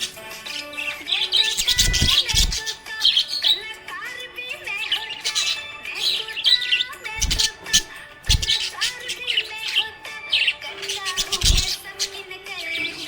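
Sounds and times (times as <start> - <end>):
background music: 0.0 - 13.0
budgies chirping and warbling: 0.0 - 13.0.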